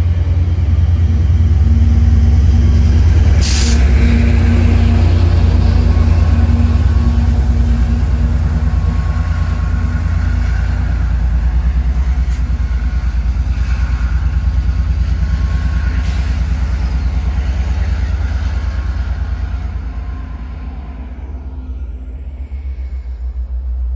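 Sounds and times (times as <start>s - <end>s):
diesel locomotive engine throbbing: 0.0s - 23.9s.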